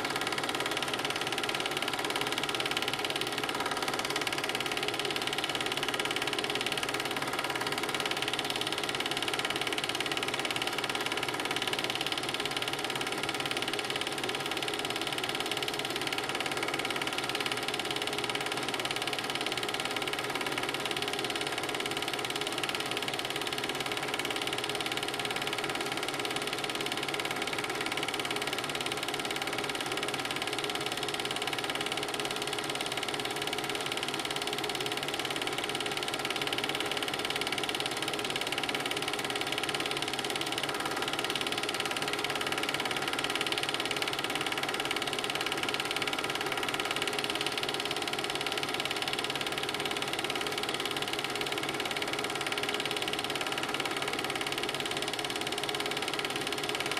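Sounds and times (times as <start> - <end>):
film projector whirring: 0.0 - 56.9.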